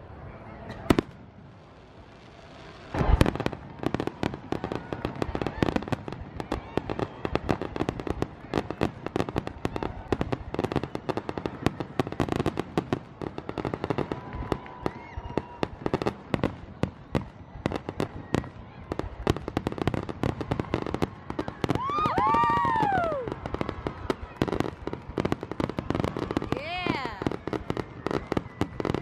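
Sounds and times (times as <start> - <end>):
whistling fireworks: 0.0 - 29.0
fireworks crackling and popping: 0.6 - 29.0.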